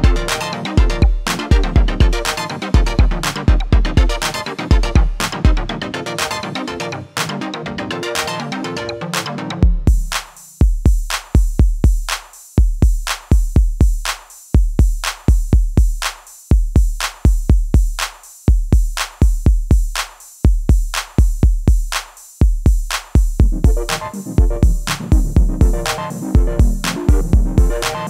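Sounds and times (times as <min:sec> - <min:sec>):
drum machine beat: 0:00.0 - 0:07.5, 0:08.1 - 0:28.0.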